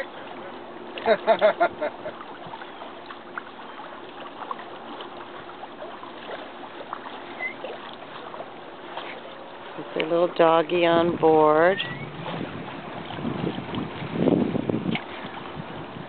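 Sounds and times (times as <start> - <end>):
small splashes: 0.0 - 16.0
water trickling along boat hull: 0.0 - 16.0.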